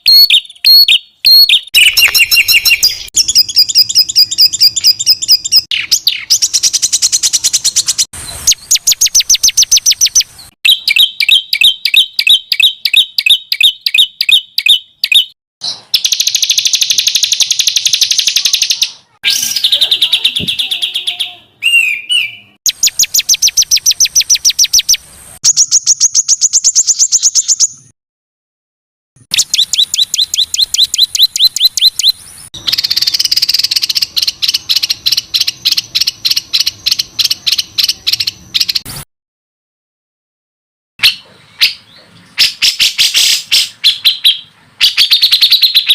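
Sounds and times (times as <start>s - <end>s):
songbird rapid harsh song: 0.0s - 27.9s, 29.2s - 39.0s, 41.0s - 45.9s.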